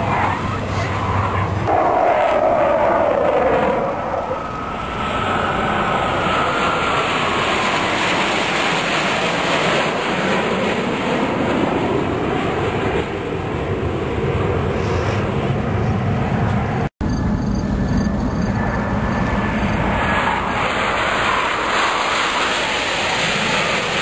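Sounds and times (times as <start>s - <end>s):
jet engines roaring overhead: 0.0s - 24.0s.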